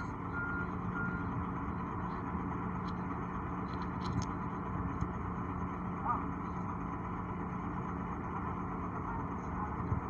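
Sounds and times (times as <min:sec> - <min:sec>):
diesel truck engine droning: 0:00.0 - 0:10.0.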